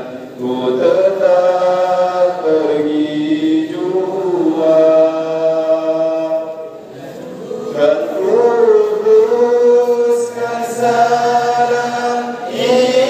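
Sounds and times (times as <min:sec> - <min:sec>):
voices chanting held notes: 0:00.0 - 0:13.0.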